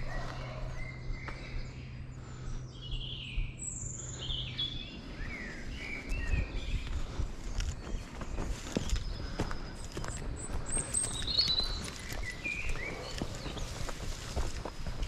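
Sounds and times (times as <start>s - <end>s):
footsteps on dirt path: 0.0s - 3.5s, 4.2s - 15.0s
birds singing: 0.0s - 15.0s.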